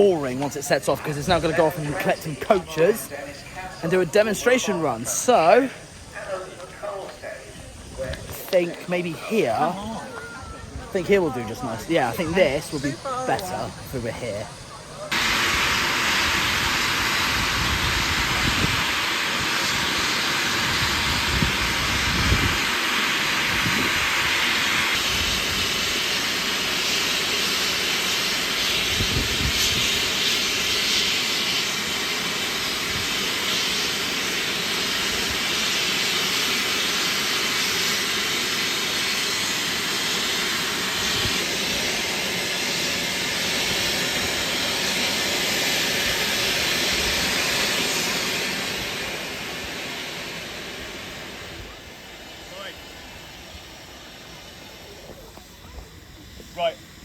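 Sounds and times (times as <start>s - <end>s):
steam hissing loudly: 0.0s - 57.0s.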